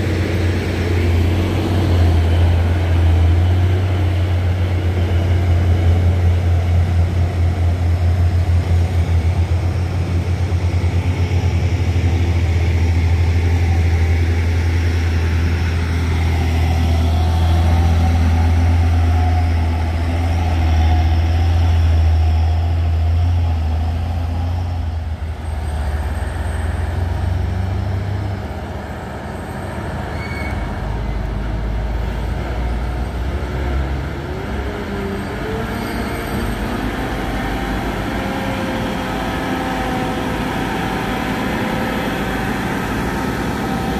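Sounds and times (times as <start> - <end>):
road noise: 0.0 - 43.9
truck engine droning: 0.0 - 43.9.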